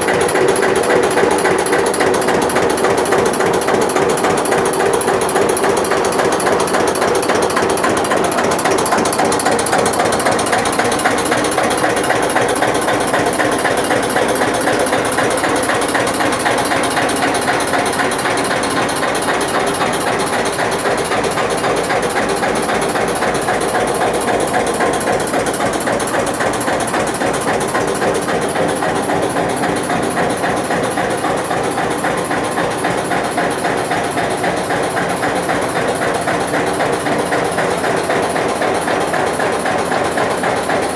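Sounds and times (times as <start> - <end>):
diesel tractor engine clattering: 0.0 - 40.9.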